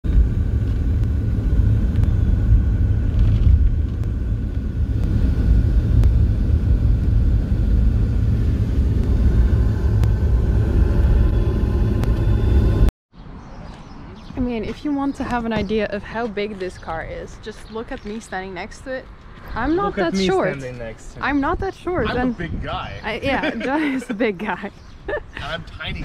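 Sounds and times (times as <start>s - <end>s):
road and engine rumble: 0.0s - 26.0s.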